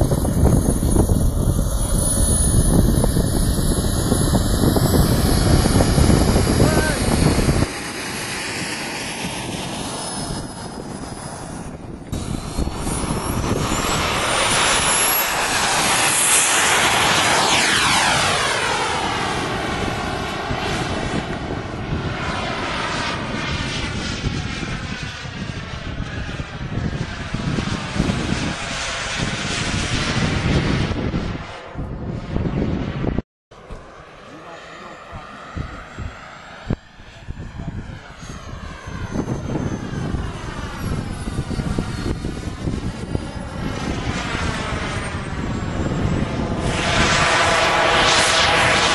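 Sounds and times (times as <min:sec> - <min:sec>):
jet turbine engine whining: 0:00.0 - 0:48.9.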